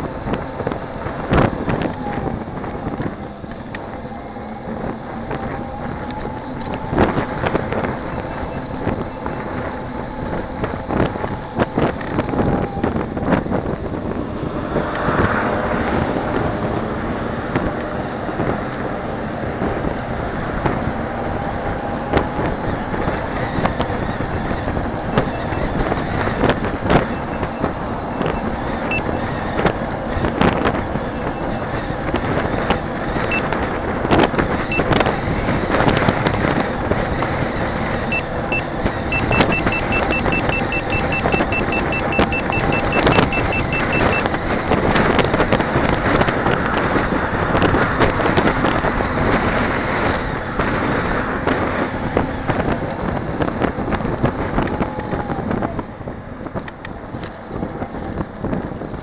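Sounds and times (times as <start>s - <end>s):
faint high whine: 0.0s - 59.0s
road and wind noise: 0.0s - 59.0s.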